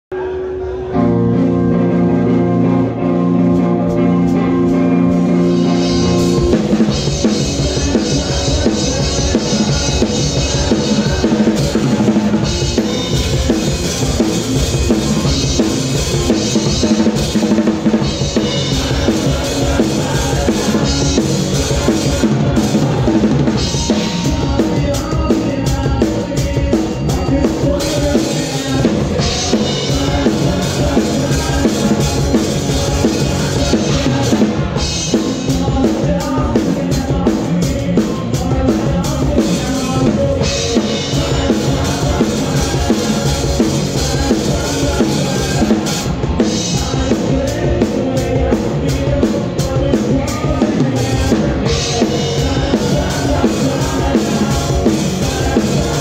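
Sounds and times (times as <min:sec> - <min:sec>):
rock band playing: 0:00.1 - 0:56.0
drum kit beat: 0:03.2 - 0:56.0.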